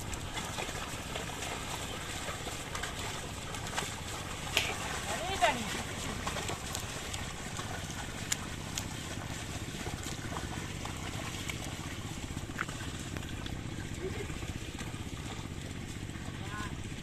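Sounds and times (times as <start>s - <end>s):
mud and water sloshing: 0.0s - 17.0s.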